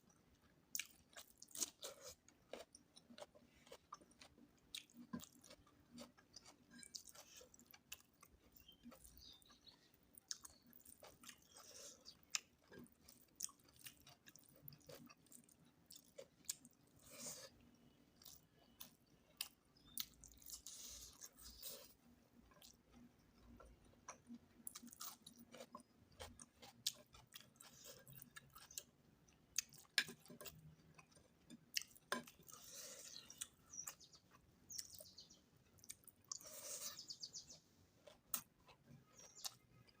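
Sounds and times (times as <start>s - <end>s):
person chewing wetly: 0.3s - 37.3s, 38.0s - 40.0s.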